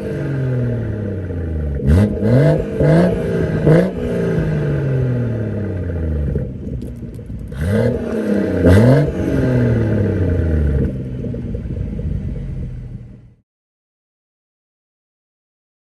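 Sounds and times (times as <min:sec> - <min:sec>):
car engine revving and idling: 0:00.0 - 0:13.4.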